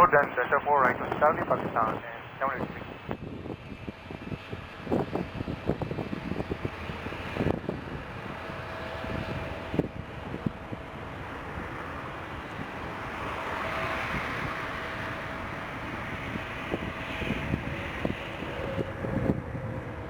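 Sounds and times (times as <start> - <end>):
jet engines whining: 0.0 - 19.3
wind buffeting microphone: 0.0 - 20.0.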